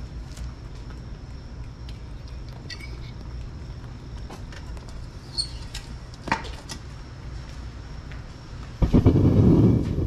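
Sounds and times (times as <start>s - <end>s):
furnace burner rumbling: 0.0s - 10.0s.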